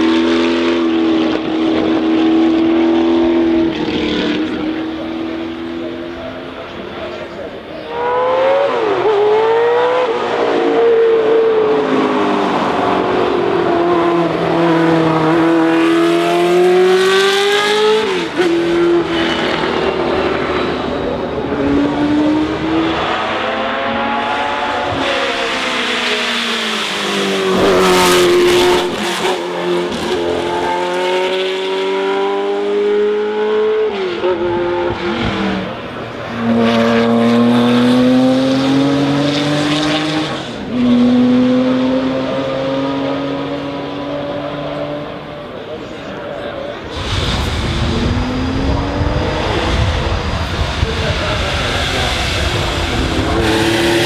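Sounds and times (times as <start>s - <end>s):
racing car engines at full throttle: 0.0s - 54.0s.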